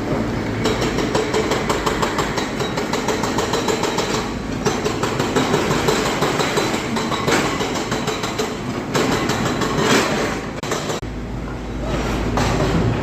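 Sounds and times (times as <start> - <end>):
hydraulic breaker hammer pounding: 0.1 - 11.0.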